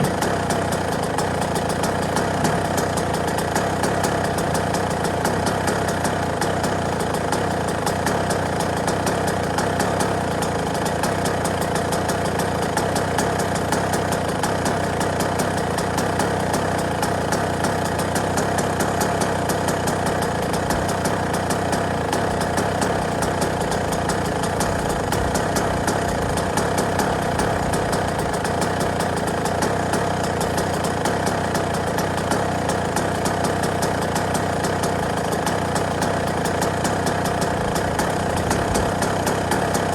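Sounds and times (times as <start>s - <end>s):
motocross engine idling: 0.0s - 39.9s.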